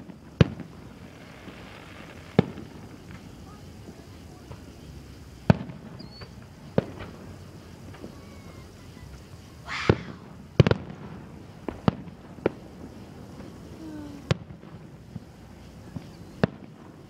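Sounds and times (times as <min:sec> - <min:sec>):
firework bangs: 0:00.0 - 0:17.0
firework hiss: 0:00.0 - 0:17.0.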